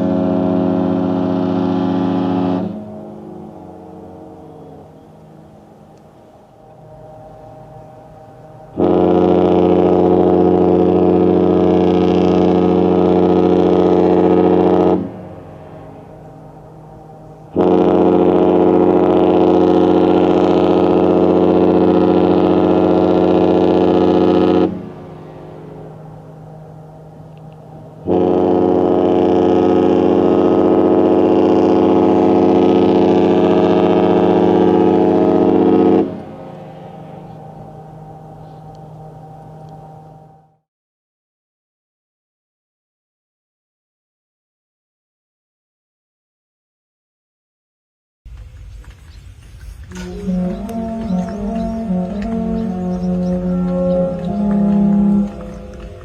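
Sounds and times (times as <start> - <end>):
ship horn blast: 0.0 - 40.6, 49.8 - 56.0.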